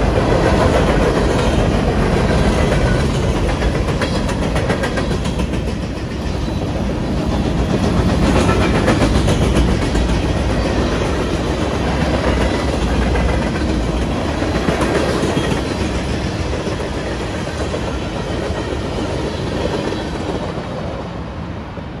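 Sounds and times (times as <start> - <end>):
train wheels clattering on rails: 0.0 - 21.2.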